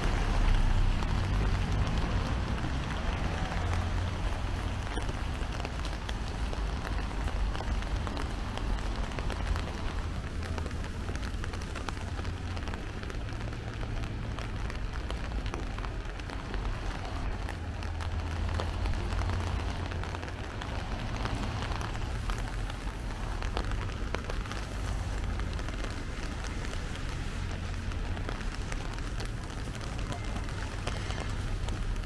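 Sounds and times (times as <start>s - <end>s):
rain dripping and pattering: 0.0s - 32.0s.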